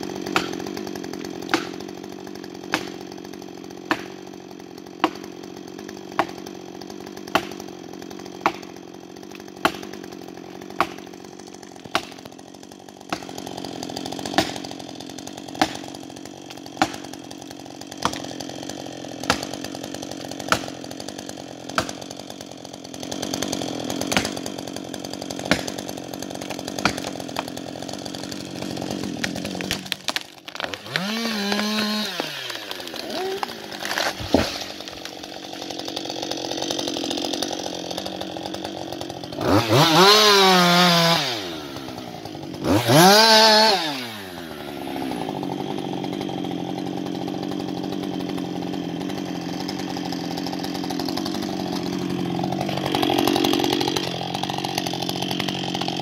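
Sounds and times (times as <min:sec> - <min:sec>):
chainsaw running and revving: 0:00.0 - 0:56.0.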